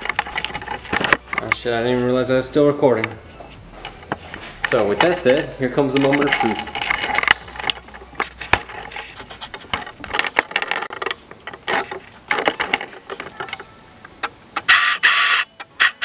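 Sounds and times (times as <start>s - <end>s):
rustling scrape: 0.0s - 13.6s.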